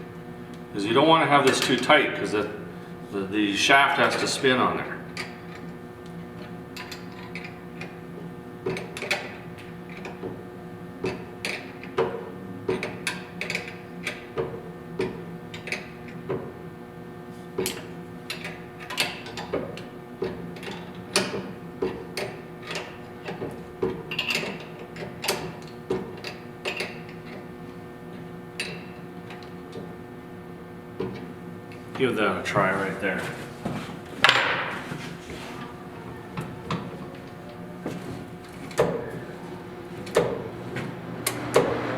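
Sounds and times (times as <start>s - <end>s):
steady hum: 0.0s - 20.6s, 23.4s - 41.9s.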